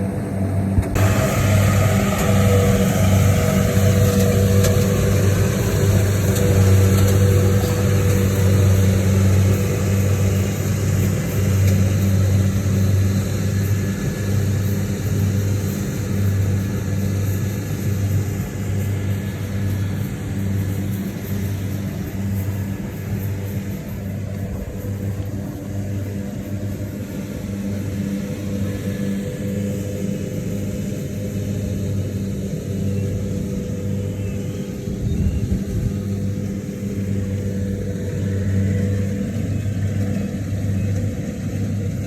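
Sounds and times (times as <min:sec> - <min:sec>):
engine running steadily: 0:00.0 - 0:42.0.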